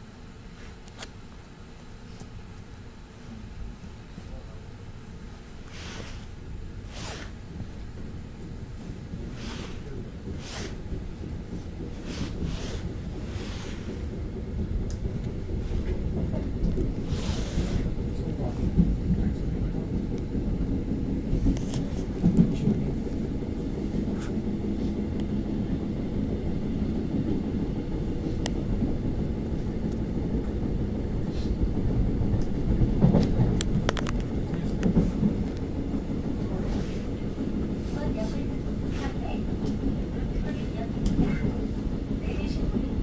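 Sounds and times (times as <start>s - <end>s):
train rumbling on track: 0.0s - 43.0s.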